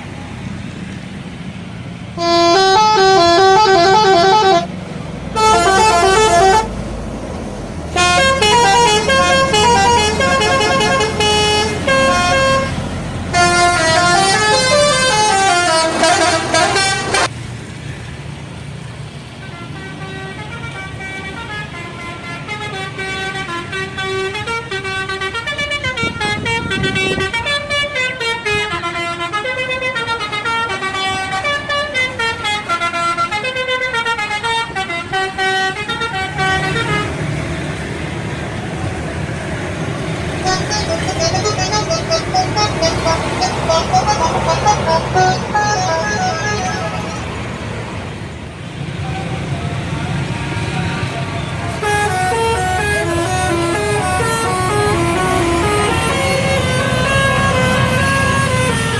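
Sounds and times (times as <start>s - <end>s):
melodic bus air horns: 2.2s - 6.8s, 7.9s - 17.3s, 19.4s - 37.4s, 40.2s - 48.3s, 49.0s - 58.9s.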